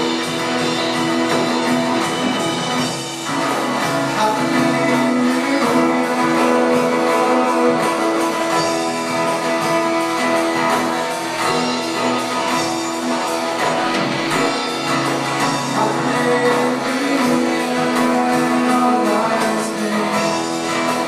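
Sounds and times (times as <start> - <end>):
strummed guitar music: 0.0 - 21.0.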